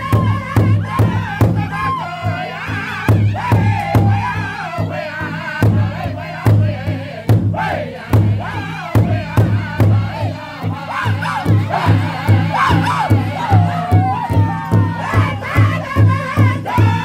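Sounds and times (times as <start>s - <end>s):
large hide drum beat: 0.0s - 17.0s
men singing high chorus: 0.0s - 17.0s.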